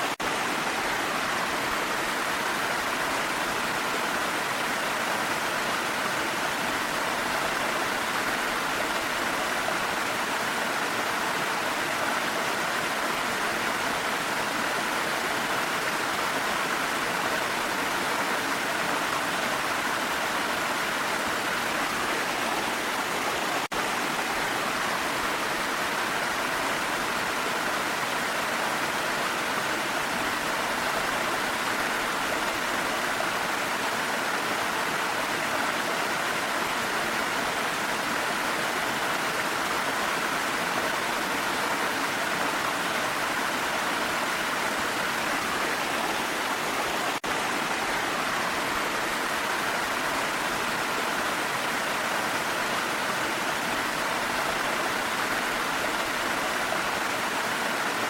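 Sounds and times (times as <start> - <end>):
falling rain: 0.0 - 58.0
waterfall rushing: 0.0 - 58.0.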